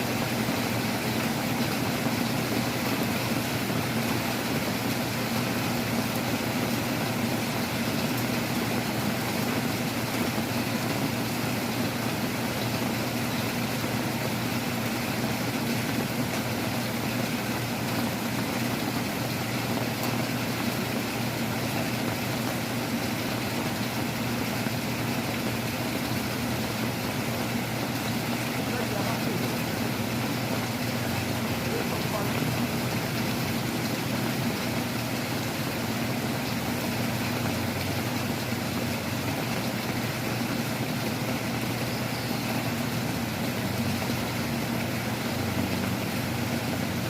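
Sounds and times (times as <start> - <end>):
heavy rain: 0.0 - 47.0
wind: 0.0 - 47.0.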